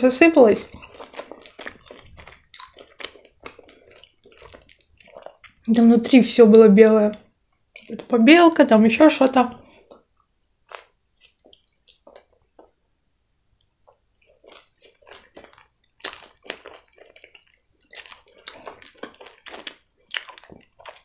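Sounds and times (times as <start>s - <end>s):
wet chewing smacks and squelches: 0.6s - 5.8s, 6.5s - 8.2s, 9.6s - 12.8s, 13.6s - 21.0s.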